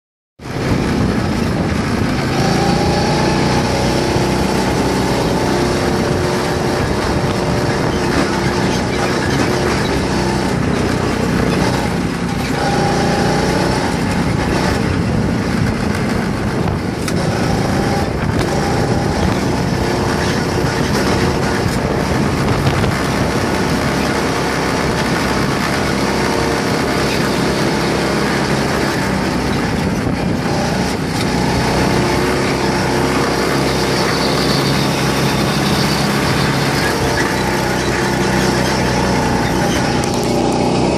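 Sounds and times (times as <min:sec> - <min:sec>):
go-kart engines droning: 0:00.4 - 0:40.9.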